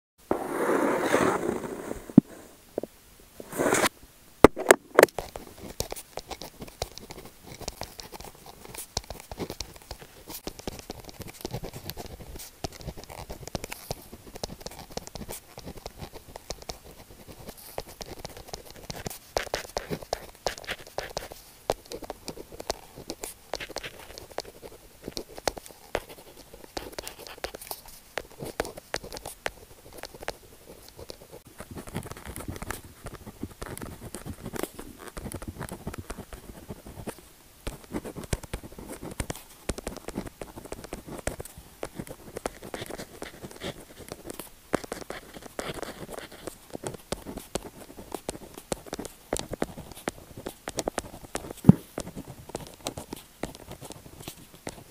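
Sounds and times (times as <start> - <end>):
pen scratching on paper: 3.4 - 3.9, 4.6 - 54.8.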